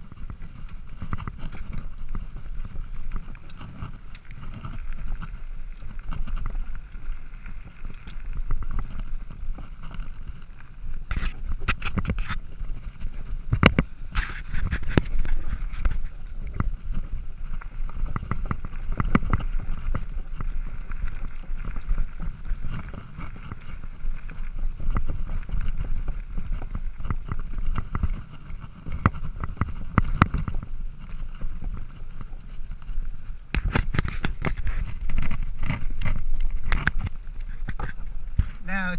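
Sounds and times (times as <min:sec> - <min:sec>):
bike rattling over bumps: 0:00.0 - 0:38.9
wind rumbling on microphone: 0:00.0 - 0:38.9.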